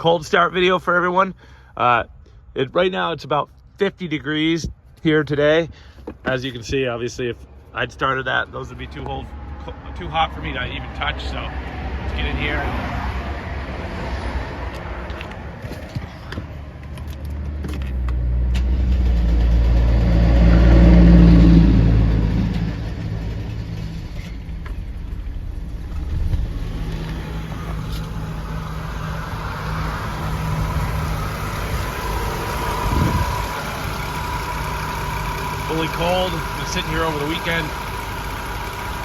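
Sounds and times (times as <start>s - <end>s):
car engine starting and idling: 7.4s - 39.0s.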